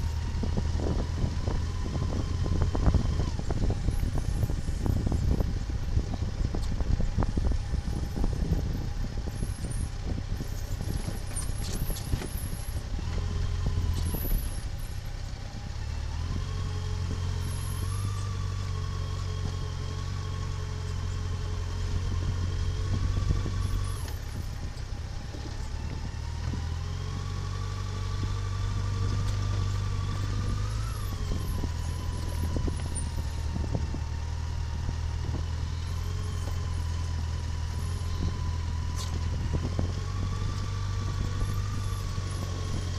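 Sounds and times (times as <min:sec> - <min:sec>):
vehicle engine revving while driving: 0:00.0 - 0:42.9.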